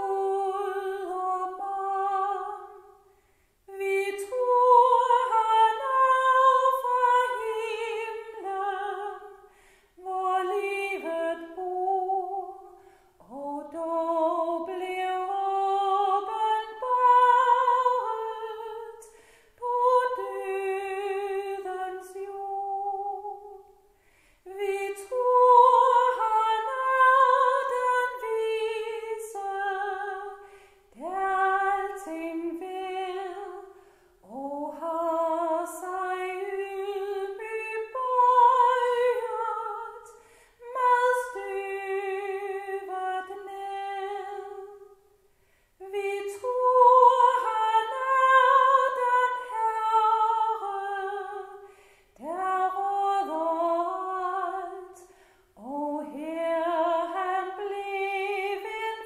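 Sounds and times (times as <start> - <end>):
woman singing a hymn: 0.0 - 3.0, 3.7 - 23.8, 24.4 - 45.1, 45.8 - 59.0.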